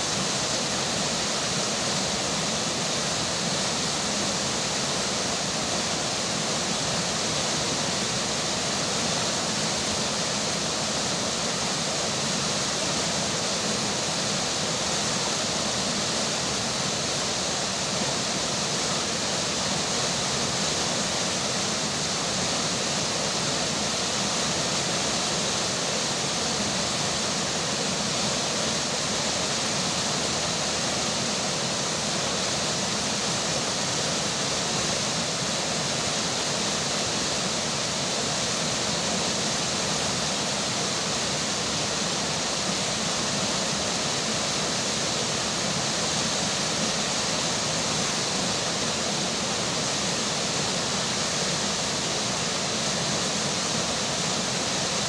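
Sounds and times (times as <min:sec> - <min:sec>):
rainfall: 0:00.0 - 0:55.0
river water flowing: 0:00.0 - 0:55.0.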